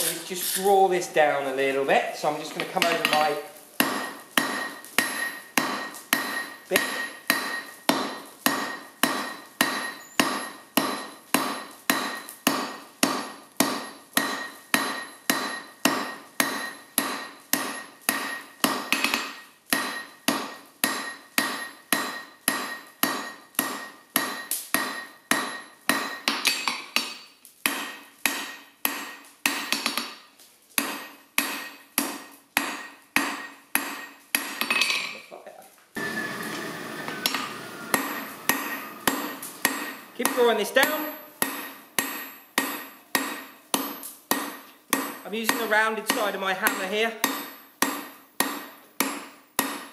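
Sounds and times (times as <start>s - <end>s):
hammer striking metal on anvil: 2.5s - 35.1s, 36.5s - 49.9s.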